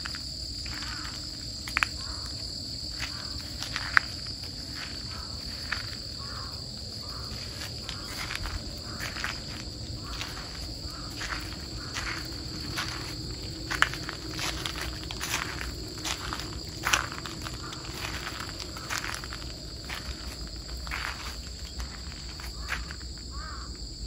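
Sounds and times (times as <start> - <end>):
footsteps crunching on gravel: 0.0 - 23.7
high-pitched insect chorus: 0.0 - 24.0.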